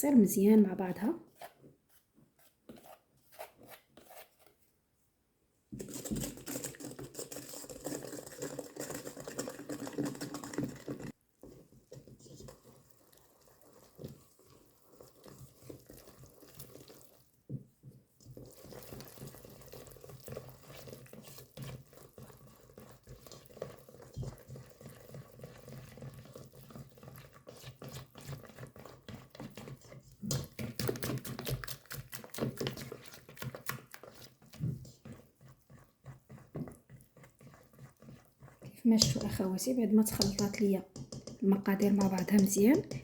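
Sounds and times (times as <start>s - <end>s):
utensil stirring liquid in bowl: 1.3s - 4.7s, 5.7s - 43.0s.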